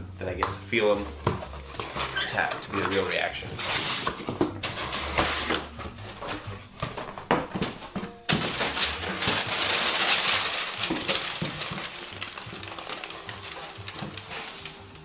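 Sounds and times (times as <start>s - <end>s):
packing paper rustling: 1.4s - 6.9s, 7.7s - 15.0s.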